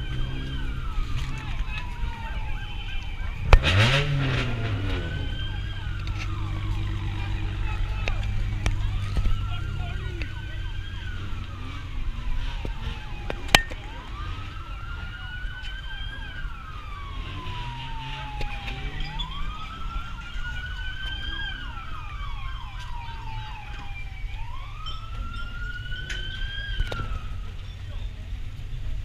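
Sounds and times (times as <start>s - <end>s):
siren wailing: 0.0s - 27.7s
traffic rumble: 0.0s - 29.0s.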